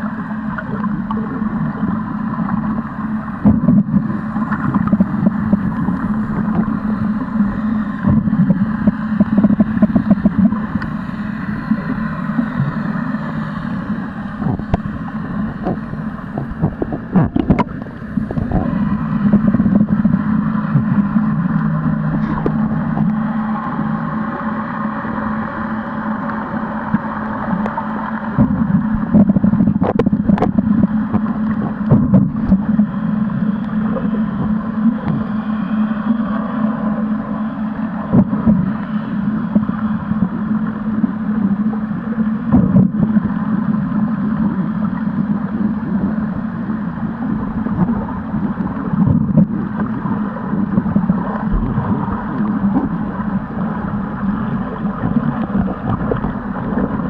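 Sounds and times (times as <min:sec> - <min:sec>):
low motor hum underwater: 0:00.0 - 0:57.0.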